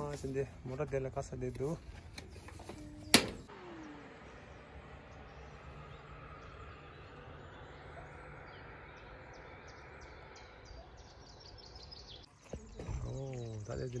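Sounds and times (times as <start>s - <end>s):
low steady background rumble: 0.0s - 14.0s
small birds chirping: 1.0s - 14.0s.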